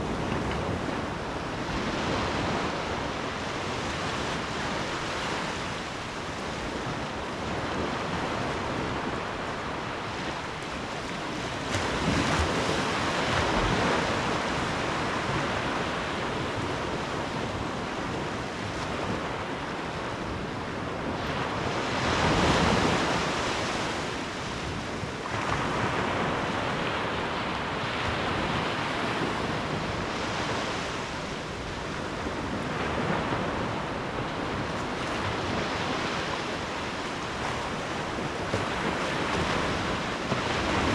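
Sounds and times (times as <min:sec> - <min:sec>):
ocean waves breaking: 0:00.0 - 0:40.9
wind buffeting microphone: 0:00.0 - 0:40.9.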